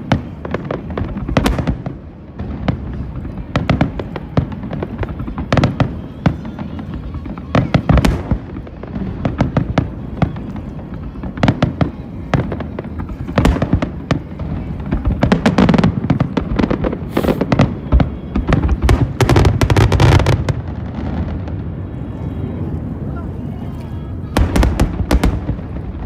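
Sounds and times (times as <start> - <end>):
aerial fireworks cracking and booming: 0.0 - 26.0.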